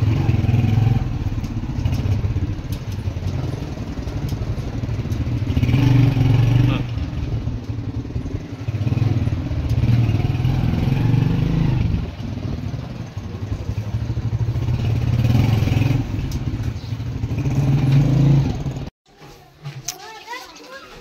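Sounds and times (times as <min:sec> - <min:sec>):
small motorcycle engine running: 0:00.0 - 0:18.9.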